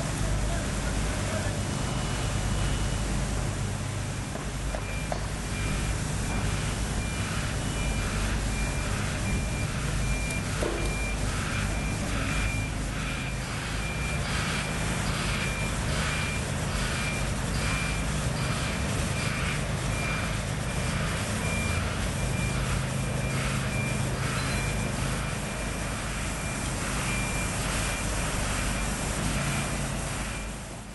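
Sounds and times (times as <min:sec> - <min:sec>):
diesel engine droning: 0:00.0 - 0:30.9
reversing warning beeps: 0:01.2 - 0:03.2, 0:04.2 - 0:30.8.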